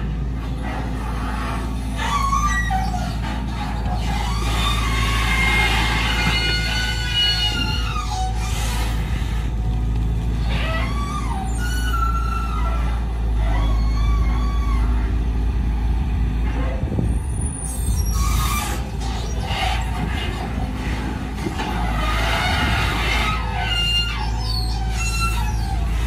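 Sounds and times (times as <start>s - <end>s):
excavator diesel engine under load: 0.0s - 26.0s
hydraulics whining: 0.0s - 26.0s.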